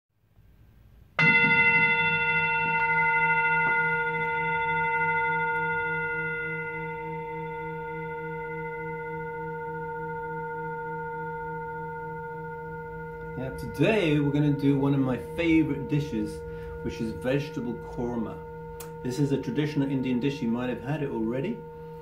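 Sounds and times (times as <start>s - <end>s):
singing bowl ringing: 1.1s - 22.0s.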